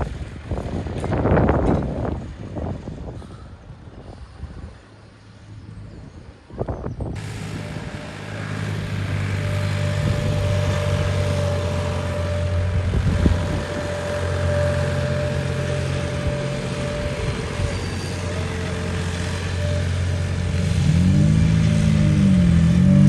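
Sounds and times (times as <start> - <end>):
tractor engine running: 0.0 - 3.1, 7.0 - 23.0.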